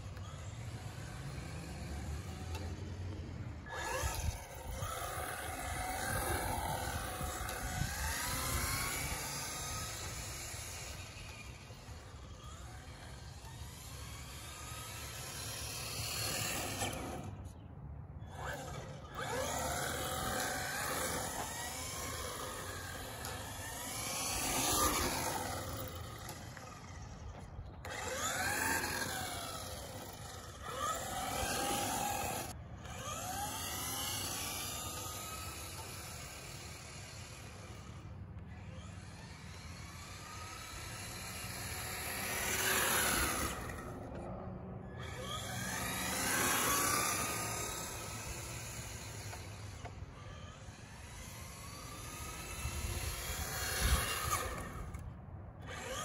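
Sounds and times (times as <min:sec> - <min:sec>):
toy car electric motor whining: 0:00.0 - 0:17.6, 0:18.2 - 0:56.0.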